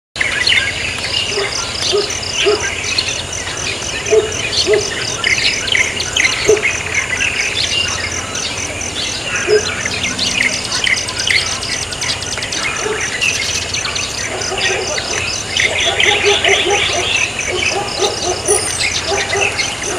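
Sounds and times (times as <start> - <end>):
small birds chirping: 0.2 - 19.9
insect trilling: 0.4 - 19.9.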